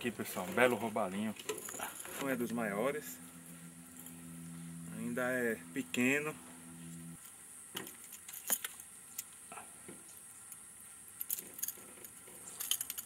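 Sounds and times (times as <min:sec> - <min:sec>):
steady high hiss: 0:00.0 - 0:11.3.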